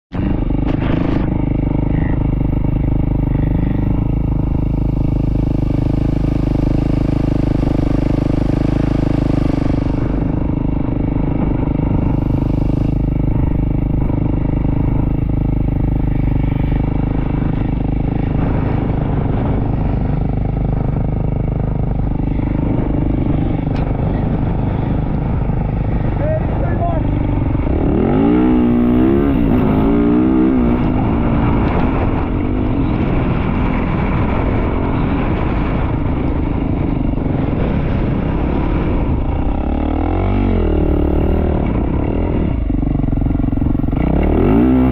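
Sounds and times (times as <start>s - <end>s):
dirt bike engine running: 0.1s - 44.9s
wind noise on microphone: 0.1s - 44.9s.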